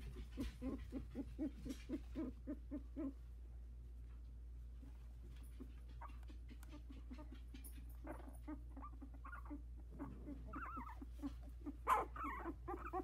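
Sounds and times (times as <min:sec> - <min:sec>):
puppies whimpering and squeaking: 0:00.0 - 0:03.3, 0:05.3 - 0:13.0.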